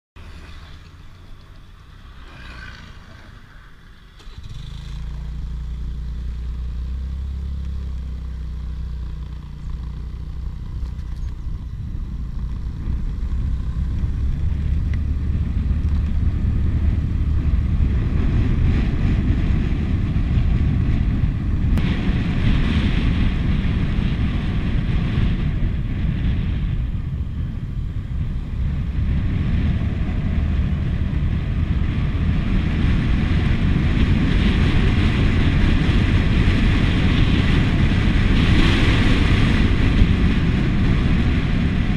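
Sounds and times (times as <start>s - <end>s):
scooter engine and wind rumble: 0.2s - 41.9s.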